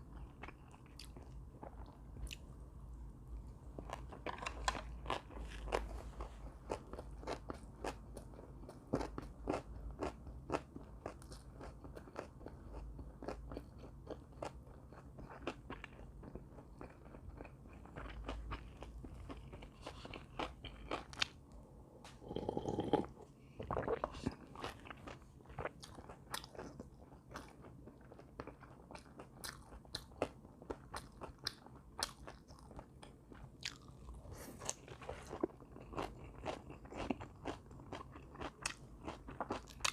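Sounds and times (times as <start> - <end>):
person chewing crunchy food: 0.1 - 2.5, 3.7 - 21.5, 22.1 - 39.9.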